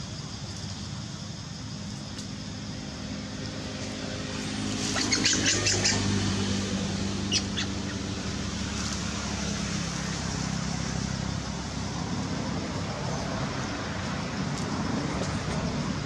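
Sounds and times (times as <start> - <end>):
low engine hum: 0.3 - 16.0.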